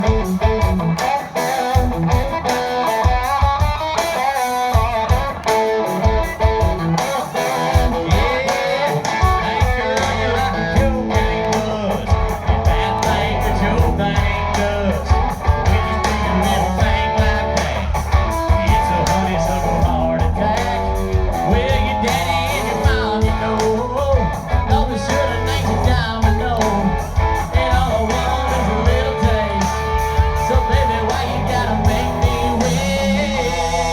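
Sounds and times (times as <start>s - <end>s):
bass and drums: 0.0s - 33.9s
electric guitar: 0.0s - 33.9s.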